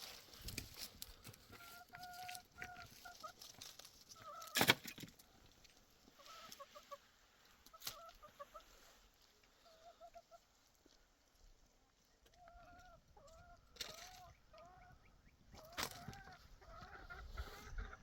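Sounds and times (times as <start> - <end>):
hens clucking: 0.7 - 18.0.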